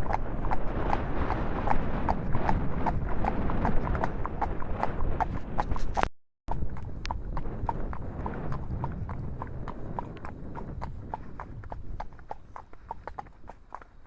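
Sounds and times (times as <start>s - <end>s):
horse hooves clip-clopping: 0.0s - 14.0s
wind rumbling on microphone: 0.0s - 14.0s.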